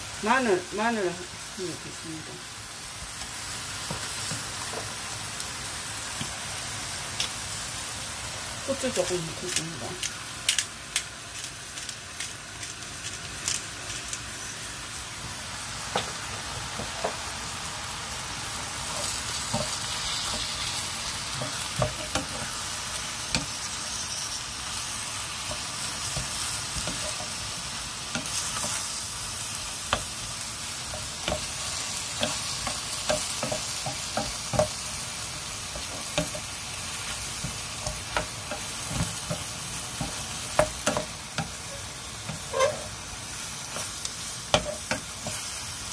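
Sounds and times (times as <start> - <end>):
food sizzling in a frying pan: 0.0 - 45.9.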